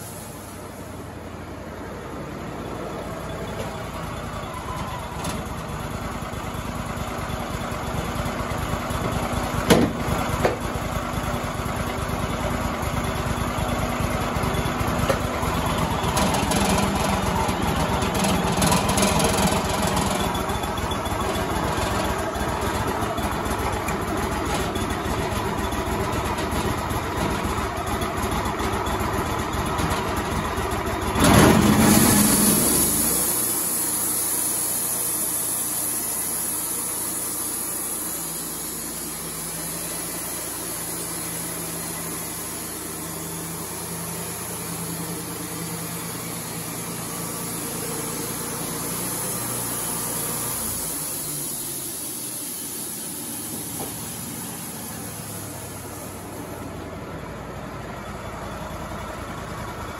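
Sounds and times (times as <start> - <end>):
sawmill engine drone: 0.0 - 59.9.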